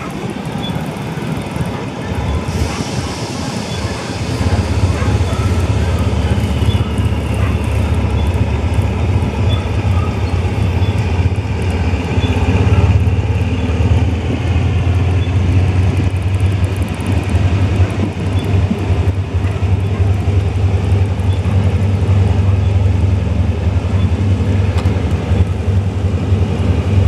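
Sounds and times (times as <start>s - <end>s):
diesel locomotive engine droning: 0.0s - 27.0s.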